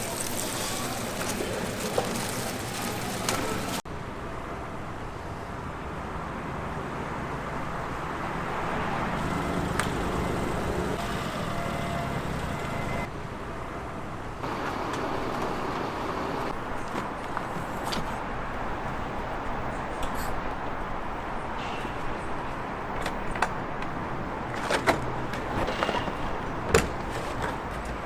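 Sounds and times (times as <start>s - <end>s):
busy street bustle: 0.0s - 28.0s
steady traffic noise: 0.0s - 28.0s.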